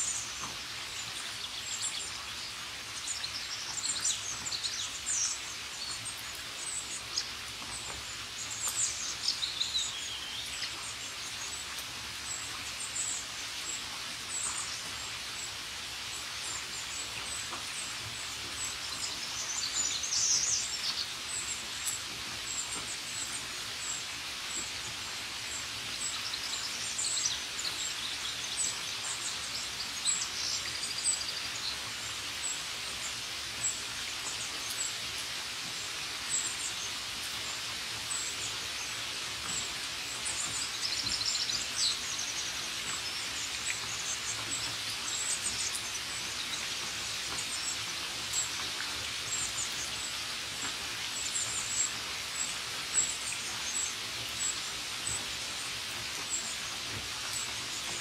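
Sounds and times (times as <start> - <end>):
rain falling on leaves: 0.0 - 58.0
songbirds chirping: 0.0 - 58.0.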